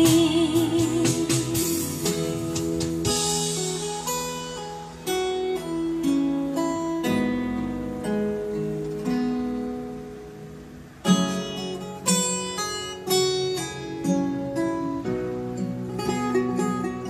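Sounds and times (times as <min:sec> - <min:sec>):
plucked guitar: 0:00.0 - 0:17.0.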